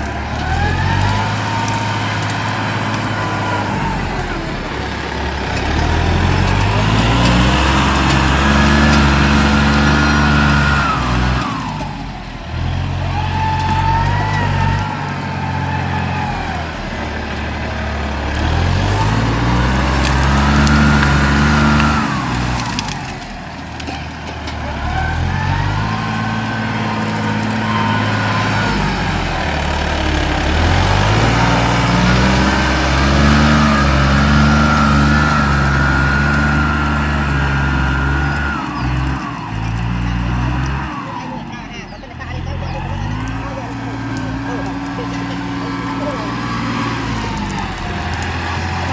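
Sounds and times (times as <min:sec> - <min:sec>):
tractor engine labouring: 0:00.0 - 0:48.9.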